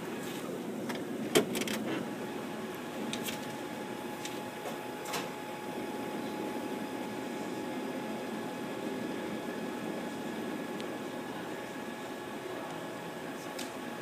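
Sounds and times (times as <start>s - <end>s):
printer mechanical hum: 0.0s - 14.0s.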